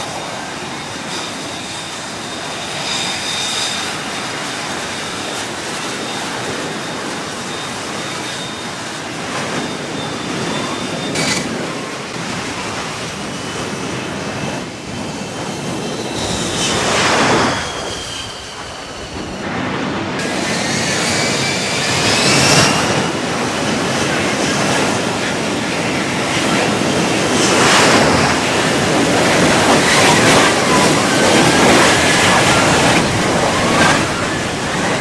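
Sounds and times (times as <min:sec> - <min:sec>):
jet engine with high whine: 0:00.0 - 0:35.0.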